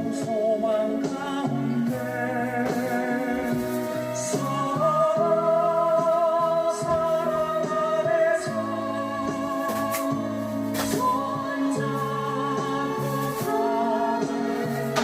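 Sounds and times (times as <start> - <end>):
slow song sung with accompaniment: 0.0 - 15.0.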